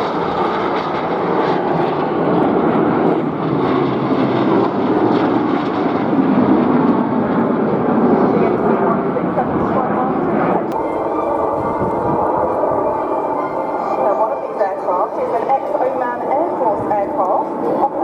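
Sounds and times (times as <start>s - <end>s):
jet aircraft engine rush: 0.0s - 18.0s.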